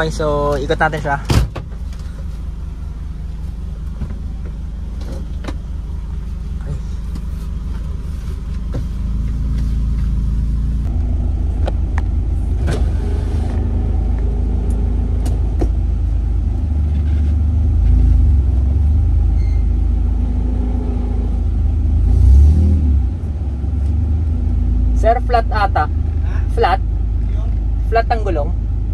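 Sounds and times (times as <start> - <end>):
car engine rumble: 0.0 - 28.9.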